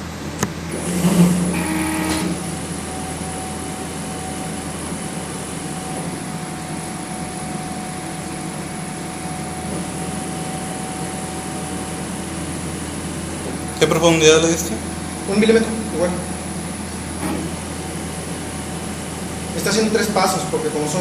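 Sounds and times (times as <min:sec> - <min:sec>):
machine motors humming with whine: 0:00.0 - 0:21.0.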